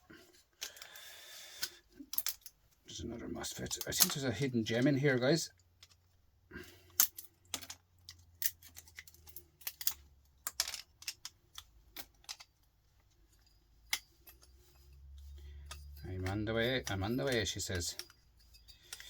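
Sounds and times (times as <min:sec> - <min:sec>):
hand tools tapping metal parts: 0:00.5 - 0:19.0.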